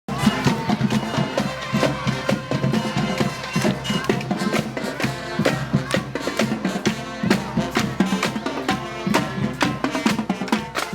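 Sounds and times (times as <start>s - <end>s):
music with steady drum beat: 0.1s - 10.9s.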